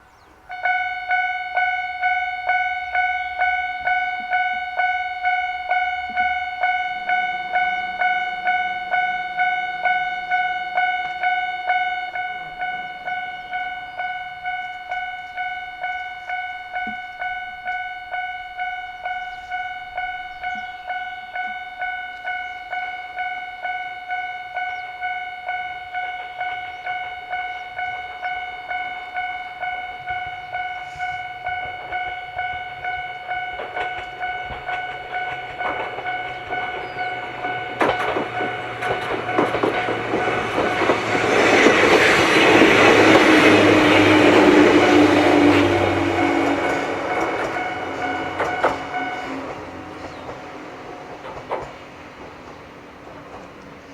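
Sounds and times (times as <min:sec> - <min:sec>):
level crossing warning bell clanging: 0:00.5 - 0:53.6.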